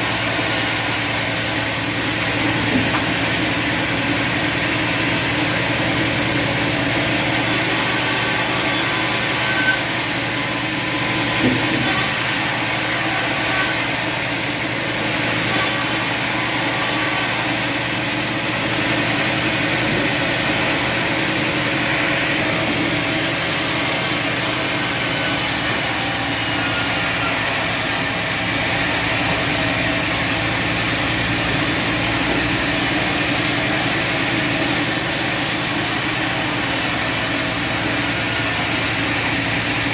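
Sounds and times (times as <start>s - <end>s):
bandsaw cutting through log: 0.0s - 39.9s.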